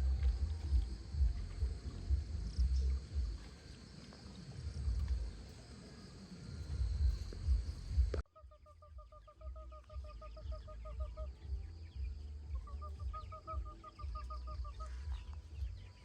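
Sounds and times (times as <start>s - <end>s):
low rumble: 0.0s - 5.7s, 6.5s - 16.0s
high insect drone: 0.0s - 16.0s.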